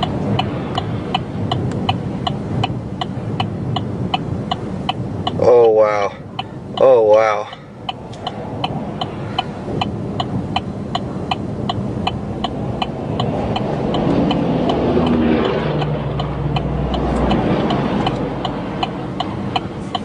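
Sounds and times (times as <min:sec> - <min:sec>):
engine and road noise: 0:00.0 - 0:20.0
indicator flasher ticking: 0:00.0 - 0:20.0.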